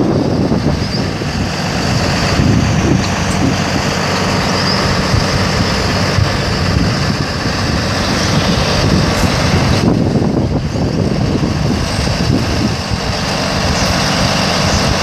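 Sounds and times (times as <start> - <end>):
truck engine idling: 0.0 - 15.0
wind rumble on microphone: 0.0 - 15.0.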